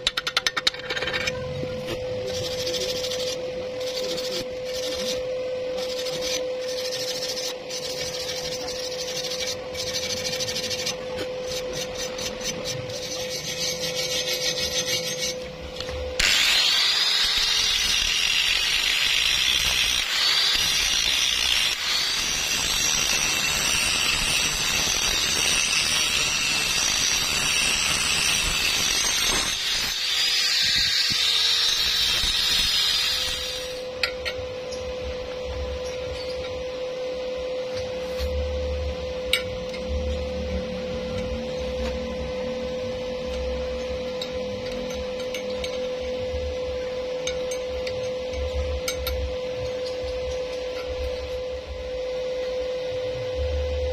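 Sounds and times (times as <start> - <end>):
steady hum with hiss: 0.0 - 53.9
power tool working metal: 0.1 - 53.9.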